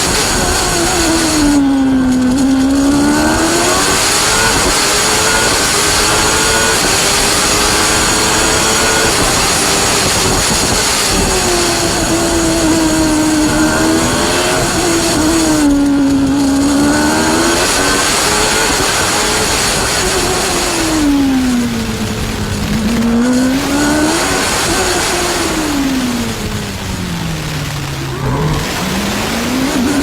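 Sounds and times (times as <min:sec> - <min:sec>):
racing car engine revving: 0:00.0 - 0:30.0
tyre noise: 0:00.0 - 0:30.0
wind noise: 0:00.0 - 0:30.0.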